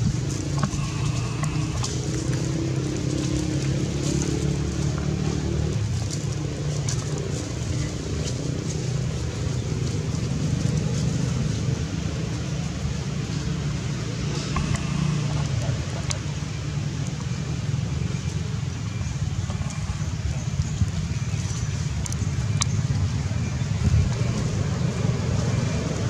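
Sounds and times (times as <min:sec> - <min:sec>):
low motor hum: 0:00.0 - 0:26.0.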